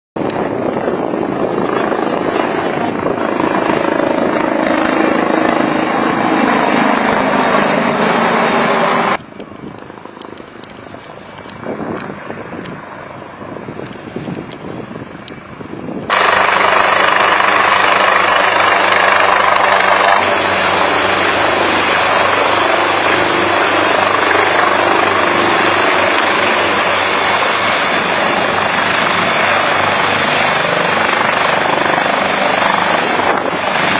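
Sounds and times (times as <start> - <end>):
helicopter engine and rotor: 0.2 - 33.9.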